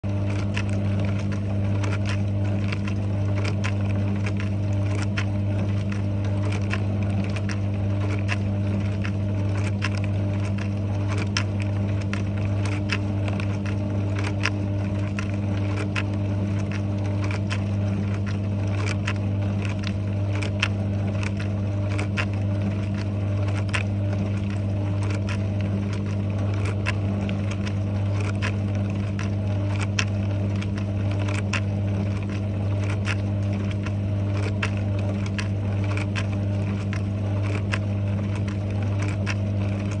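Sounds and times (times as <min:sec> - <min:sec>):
dishwasher humming: 0:00.0 - 0:40.0.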